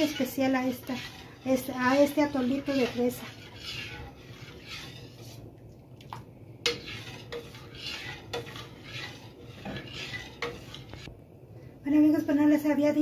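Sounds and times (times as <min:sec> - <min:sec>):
spoon swishing through liquid: 0:00.0 - 0:11.2.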